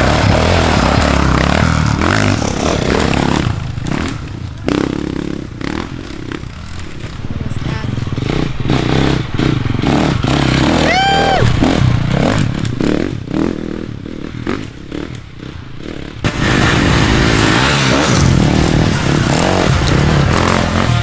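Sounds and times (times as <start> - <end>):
loud dense noise: 0.0 - 14.2, 16.2 - 21.0
motorcycle engines revving: 0.0 - 21.0.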